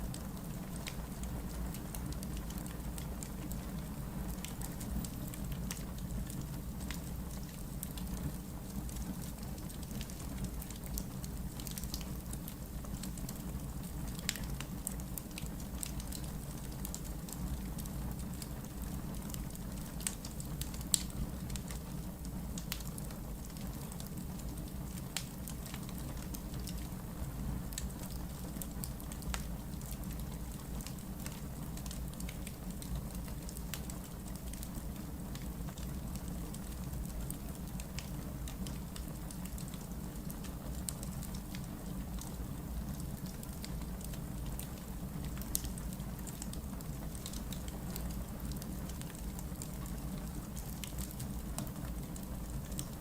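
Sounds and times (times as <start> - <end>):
low fire rumble: 0.0 - 53.0
wood fire crackling and popping: 0.0 - 53.0.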